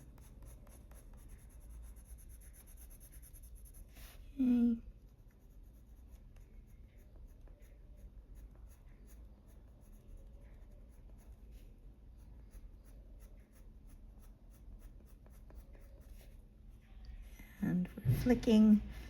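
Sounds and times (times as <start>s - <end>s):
coloured pencil scratching on paper: 0.0s - 17.0s.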